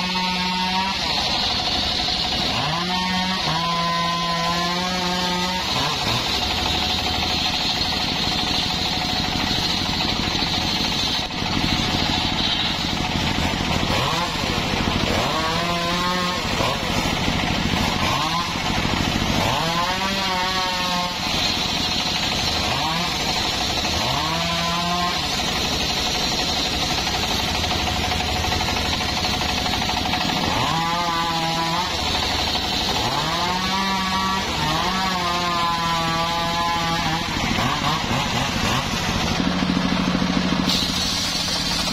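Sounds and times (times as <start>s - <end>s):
circular saw cutting log: 0.0s - 41.9s.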